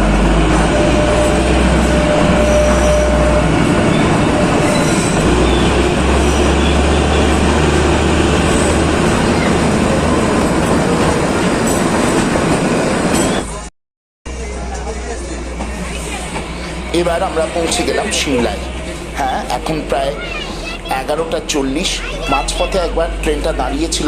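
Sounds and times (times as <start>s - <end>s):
train wheels rattling and rumbling: 0.0s - 13.7s, 14.5s - 24.0s.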